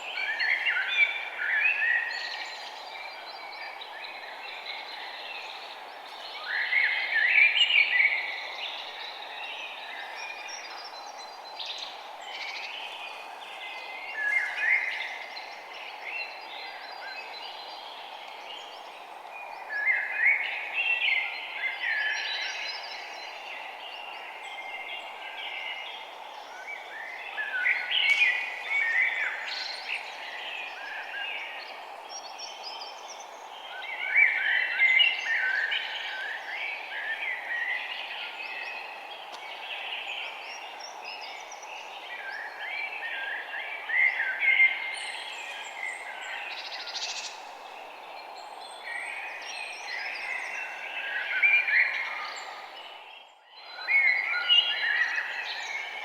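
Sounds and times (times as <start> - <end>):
songbirds chirping and singing: 0.0 - 56.0
steady background hiss: 0.0 - 56.0.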